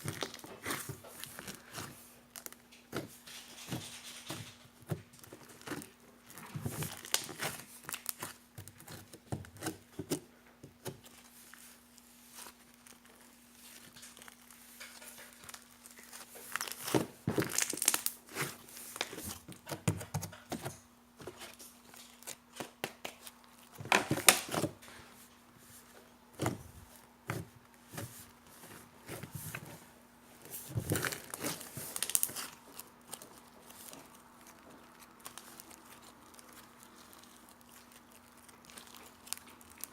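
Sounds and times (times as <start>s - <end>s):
slime crackling and squishing: 0.0s - 10.2s, 10.8s - 25.0s, 30.4s - 39.9s.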